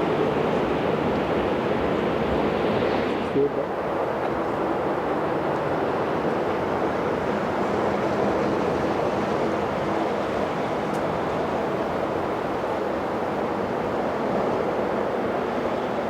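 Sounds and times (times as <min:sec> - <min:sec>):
jet airliner engine noise: 0:00.0 - 0:16.0.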